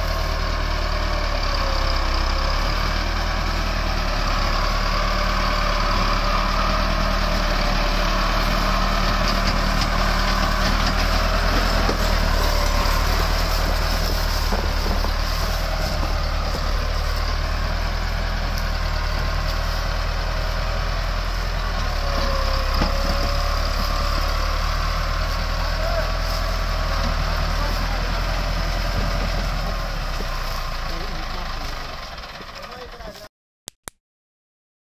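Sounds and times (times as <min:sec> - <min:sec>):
tractor diesel engine under load: 0:00.0 - 0:33.3.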